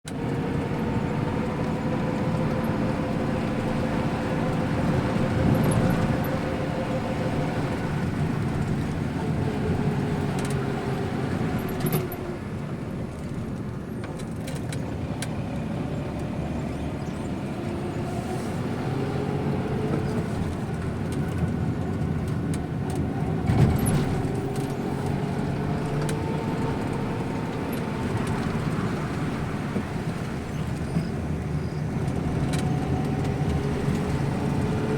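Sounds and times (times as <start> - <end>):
road and tyre noise: 0.0 - 34.9
vehicle engine running: 0.1 - 34.9.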